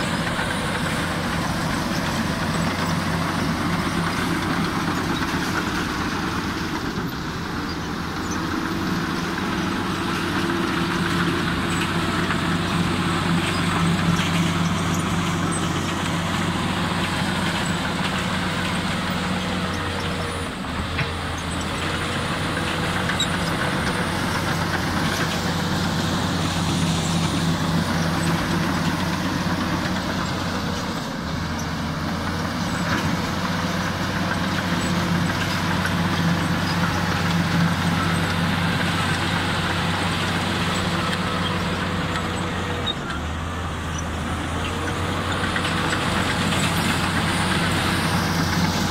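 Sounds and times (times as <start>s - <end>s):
bulldozer diesel engine under load: 0.0s - 48.9s
tracks and rock scraping: 0.0s - 48.9s.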